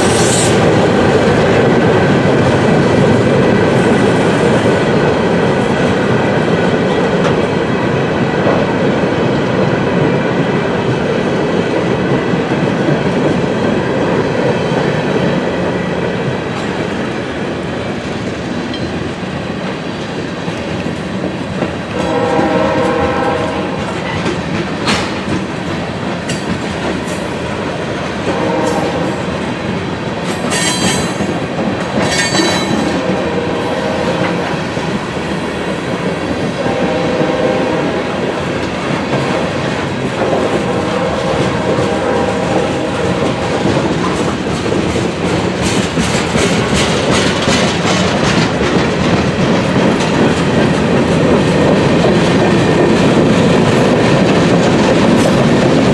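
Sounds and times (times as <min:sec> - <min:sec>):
train wheels clacking over rails: 0:00.0 - 0:55.9.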